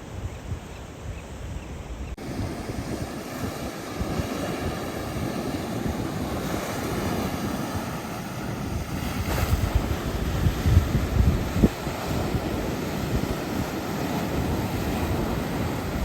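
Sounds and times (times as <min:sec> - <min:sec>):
wind buffeting microphone: 0:00.0 - 0:16.0
surf splashing against rocks: 0:02.2 - 0:16.0.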